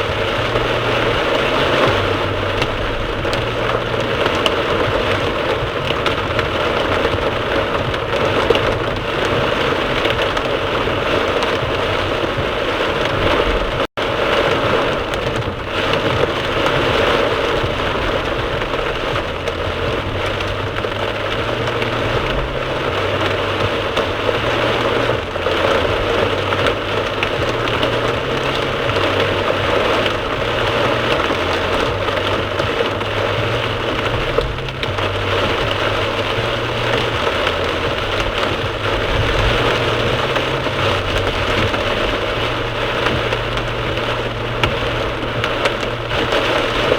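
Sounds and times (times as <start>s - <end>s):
rain drumming on car: 0.0s - 46.9s
road and engine rumble: 0.0s - 46.9s.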